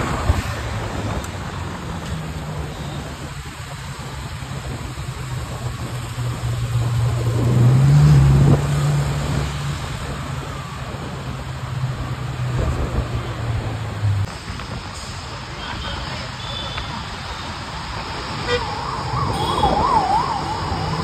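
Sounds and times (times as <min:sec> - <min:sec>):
road and traffic noise: 0:00.0 - 0:21.0.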